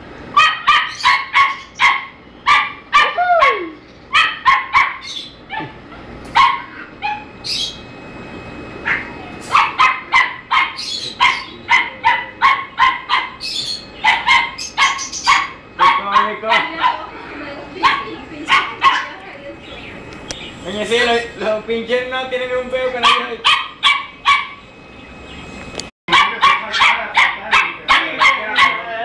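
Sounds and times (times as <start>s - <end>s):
puppies yapping: 0.3s - 7.9s, 8.8s - 20.6s, 22.9s - 24.7s, 26.1s - 29.0s.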